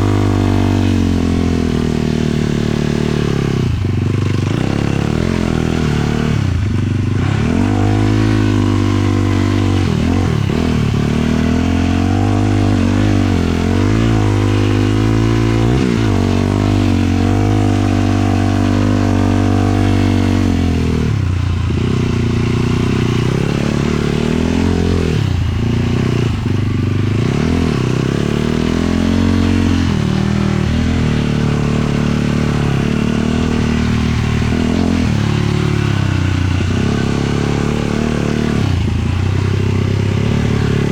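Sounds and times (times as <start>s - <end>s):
quad engine revving: 0.0s - 40.9s.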